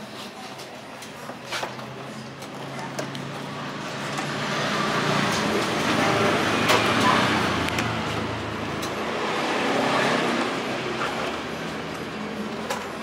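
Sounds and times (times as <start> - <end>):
traffic noise: 0.0 - 13.0
vehicle engine: 1.8 - 13.0.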